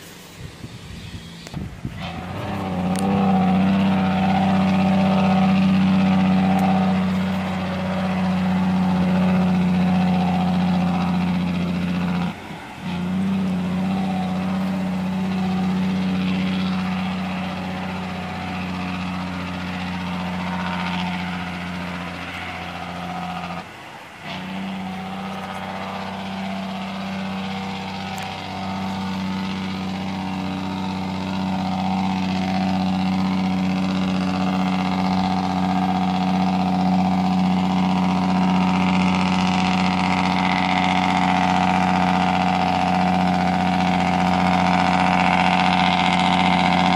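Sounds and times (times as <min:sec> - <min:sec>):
vehicle engine droning: 0:00.0 - 0:46.9.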